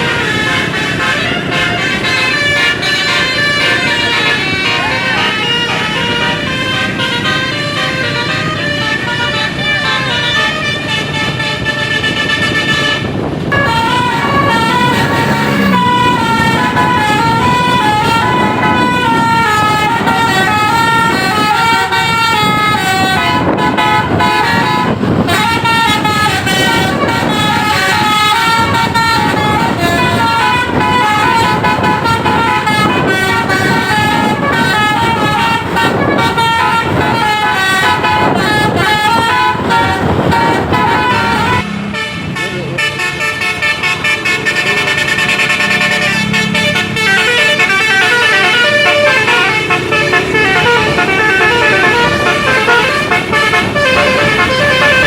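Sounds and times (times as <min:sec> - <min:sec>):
bus musical horn tune: 0:00.0 - 0:55.0.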